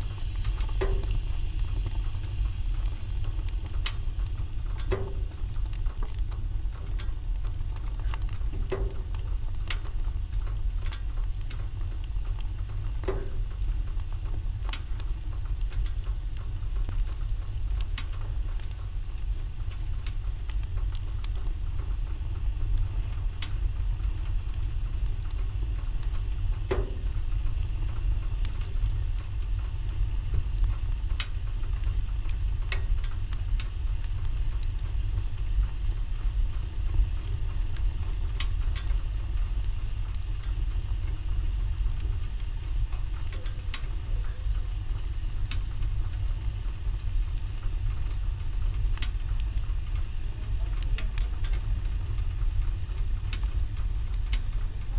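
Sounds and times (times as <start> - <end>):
fire pops: 0.0 - 54.9
low fire rumble: 0.0 - 54.9
wood fire crackling: 0.0 - 54.9.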